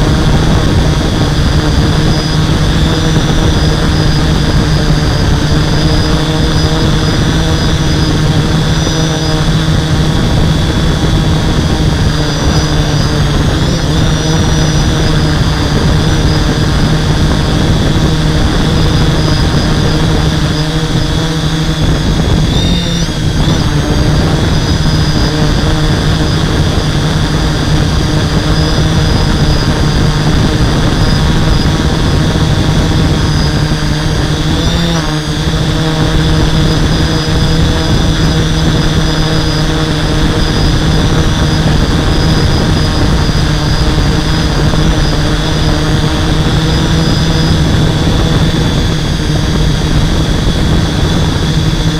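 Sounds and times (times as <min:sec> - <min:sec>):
drone motors humming with whine: 0:00.0 - 0:51.9.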